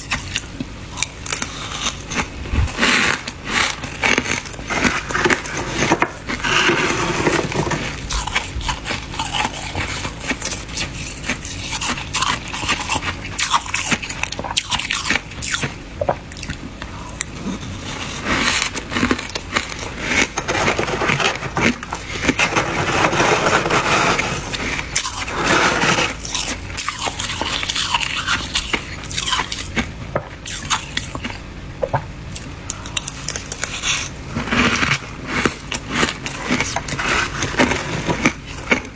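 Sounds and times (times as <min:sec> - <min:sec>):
freezer frost being scraped: 0:00.0 - 0:15.7, 0:17.2 - 0:29.8, 0:32.9 - 0:38.9
ice crackling and crunching: 0:01.2 - 0:15.7, 0:17.3 - 0:29.9, 0:32.9 - 0:38.9.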